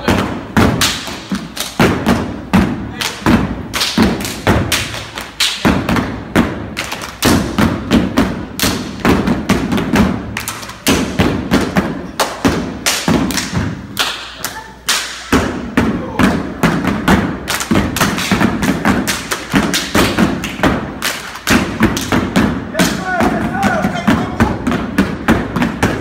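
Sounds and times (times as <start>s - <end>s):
feet stomping: 0.0s - 13.9s, 15.3s - 26.0s
hands clapping and slapping: 0.0s - 15.5s, 16.2s - 26.0s.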